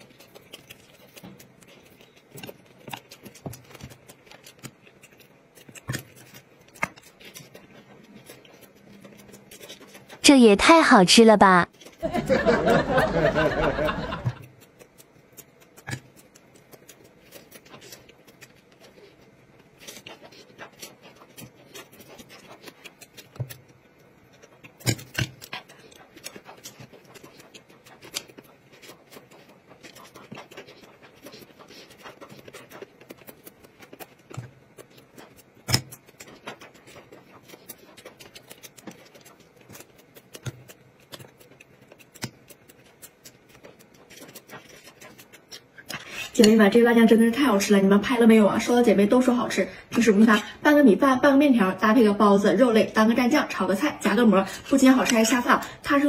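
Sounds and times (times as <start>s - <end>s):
person chewing: 0.0s - 10.2s, 11.7s - 47.8s, 53.3s - 56.0s.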